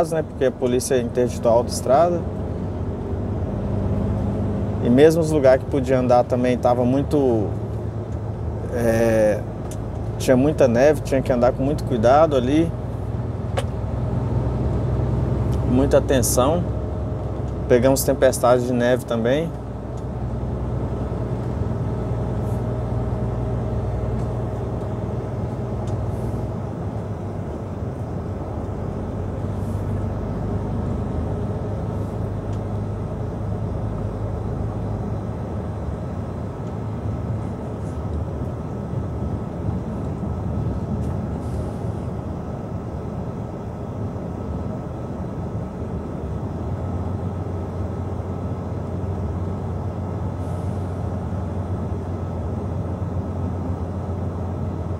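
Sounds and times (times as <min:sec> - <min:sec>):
truck engine drone: 0:00.0 - 0:54.9.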